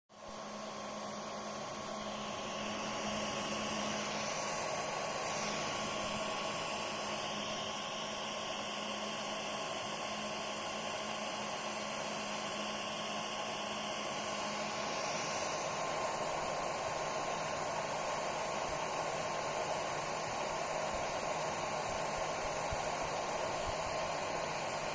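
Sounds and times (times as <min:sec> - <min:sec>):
fan whir: 0:00.1 - 0:24.9
steady high whine: 0:00.1 - 0:24.9.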